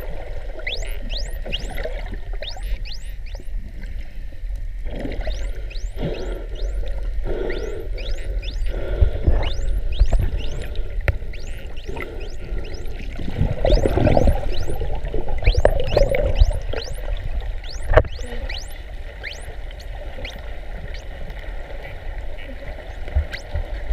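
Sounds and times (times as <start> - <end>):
dolphins whistling underwater: 0.0 - 4.0, 4.9 - 23.6
low rumble of water: 0.0 - 23.9.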